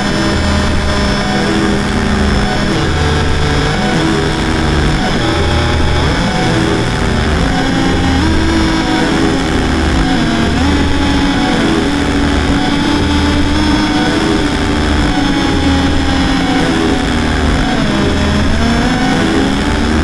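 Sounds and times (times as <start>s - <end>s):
electronic drone music: 0.0s - 20.0s
low pulse: 0.0s - 20.0s.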